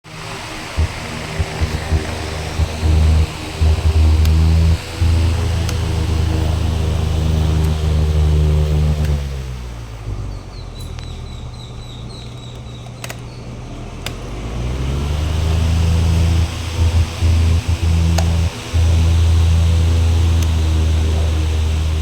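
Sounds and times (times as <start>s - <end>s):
electric fan motor humming: 0.0s - 10.3s, 11.7s - 22.0s.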